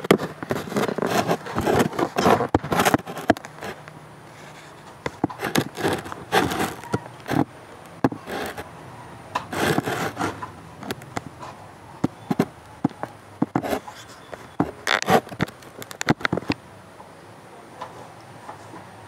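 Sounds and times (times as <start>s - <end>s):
scraping and rustling: 0.0s - 16.6s.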